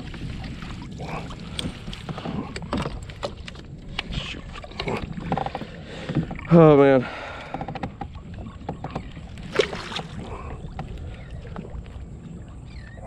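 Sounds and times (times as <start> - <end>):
knocks and clatter in kayak: 0.0 - 13.0
low wind rumble: 0.0 - 13.0.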